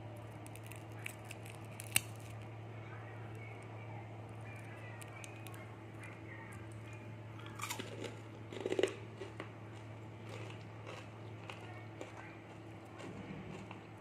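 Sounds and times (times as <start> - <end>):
popcorn crunching: 0.0 - 14.0.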